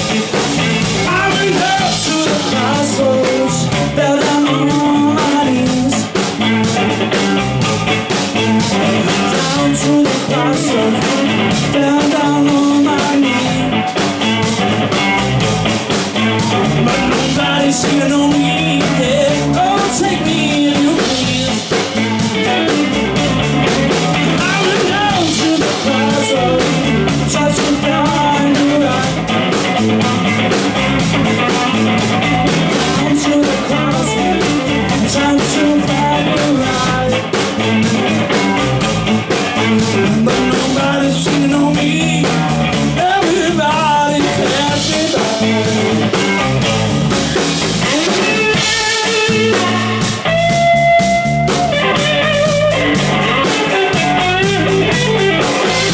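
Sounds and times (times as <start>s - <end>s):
drum kit with cymbals: 0.0s - 55.9s
electric bass: 0.0s - 55.9s
electric guitar: 0.0s - 55.9s.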